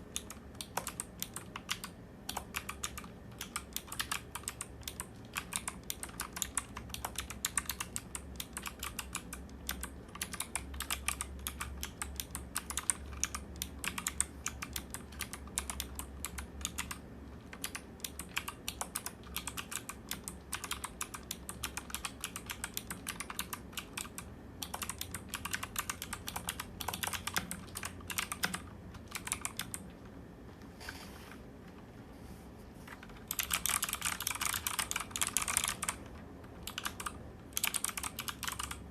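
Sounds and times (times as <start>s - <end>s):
mechanical keyboard typing: 0.0s - 30.1s, 33.0s - 38.9s.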